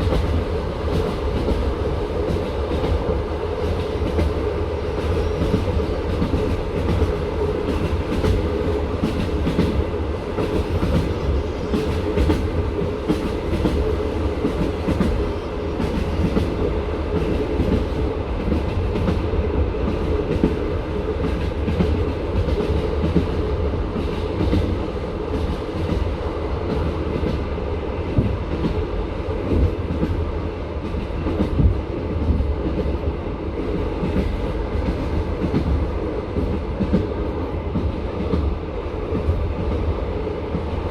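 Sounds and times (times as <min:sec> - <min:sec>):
train carriage rumble: 0:00.0 - 0:40.9
wheels clacking on rails: 0:00.0 - 0:40.9.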